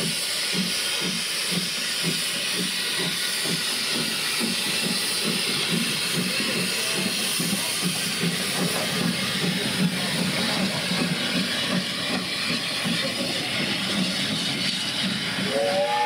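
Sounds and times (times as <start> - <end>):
steam locomotive hissing: 0.0 - 16.0.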